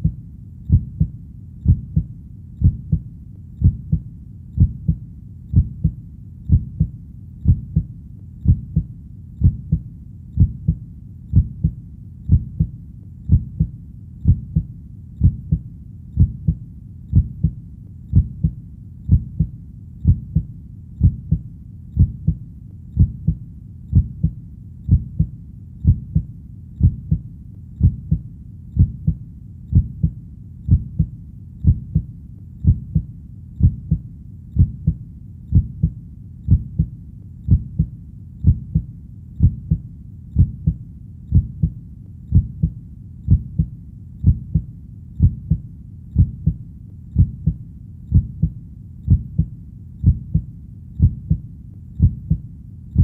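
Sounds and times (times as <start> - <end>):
faint low hum: 0.0 - 53.0
heartbeat: 0.0 - 53.0.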